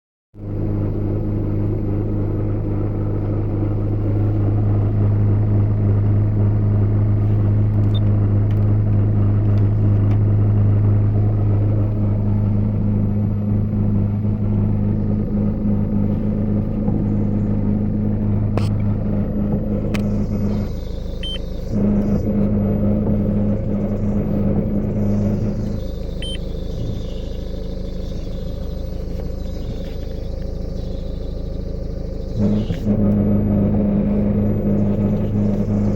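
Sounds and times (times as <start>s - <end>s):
diesel engine idling: 0.4s - 35.9s.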